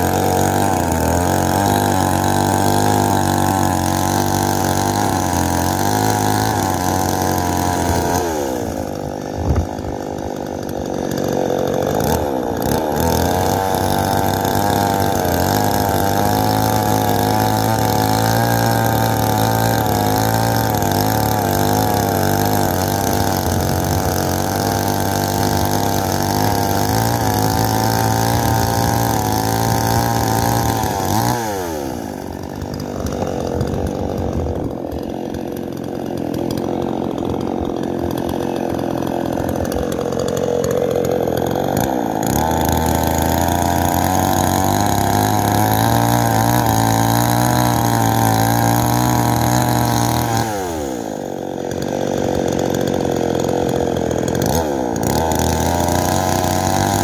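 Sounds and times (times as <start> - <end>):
chainsaw cutting logs: 0.0 - 57.0
chainsaw idling: 0.0 - 57.0.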